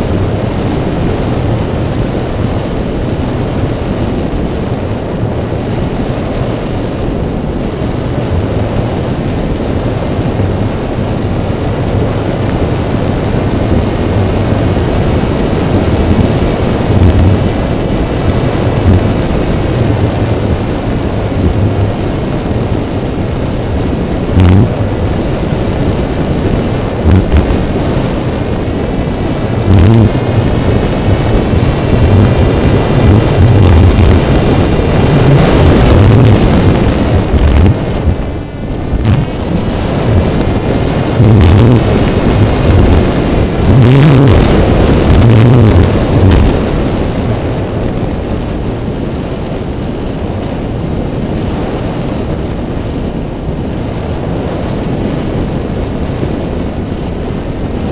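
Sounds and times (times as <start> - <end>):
propeller motors whining: 0.0 - 47.2
wind rumble on microphone: 0.0 - 57.9.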